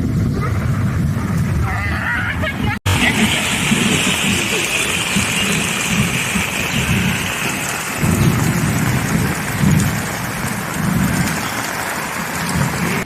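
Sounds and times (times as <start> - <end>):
heavy rain pouring: 0.0 - 13.0
low rumbles: 0.0 - 13.0.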